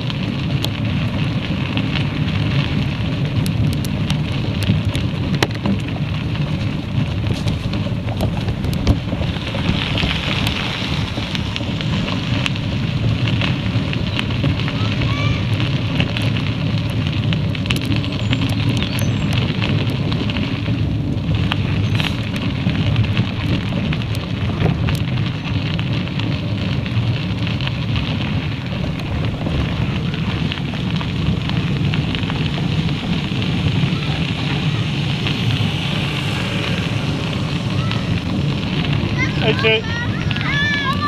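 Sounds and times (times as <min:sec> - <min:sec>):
tyres rolling over gravel: 0:00.0 - 0:41.0
wind rumble on microphone: 0:00.0 - 0:41.0.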